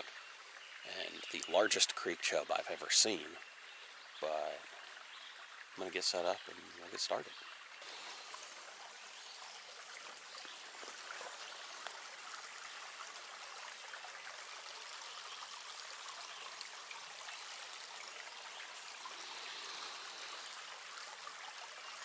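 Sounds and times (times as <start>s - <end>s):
creek babbling: 0.0s - 22.0s.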